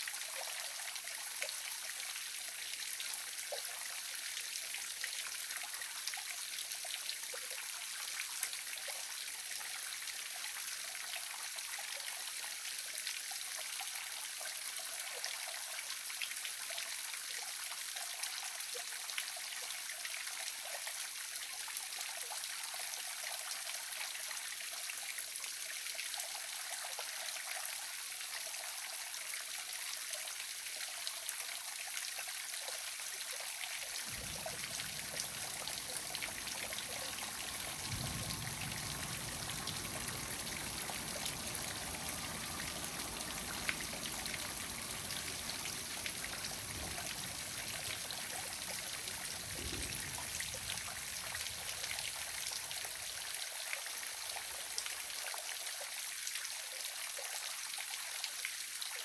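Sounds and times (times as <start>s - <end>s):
small waterfall splashing: 0.0s - 59.0s.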